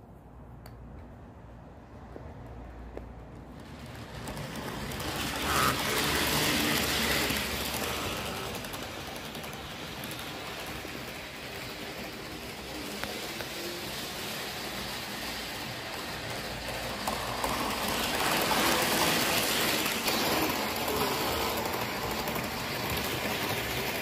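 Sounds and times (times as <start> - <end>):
model train running on track: 3.6 - 24.0.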